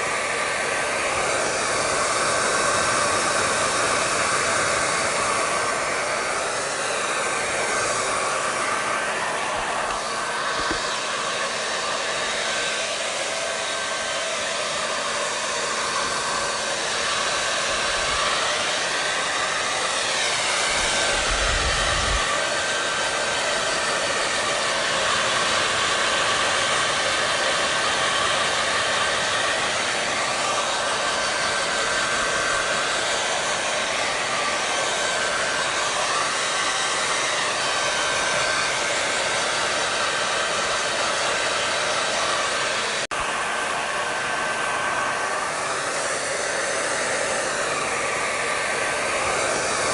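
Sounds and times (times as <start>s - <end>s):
hair dryer running: 0.0s - 49.9s.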